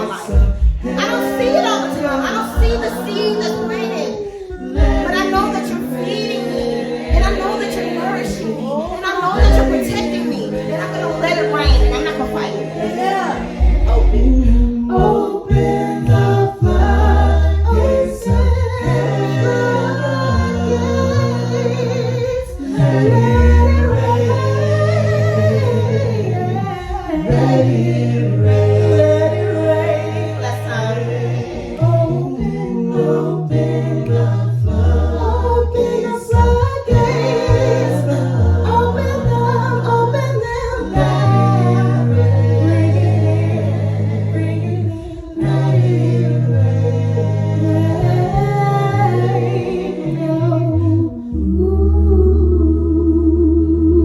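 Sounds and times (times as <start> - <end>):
a cappella choir singing: 0.0 - 54.0.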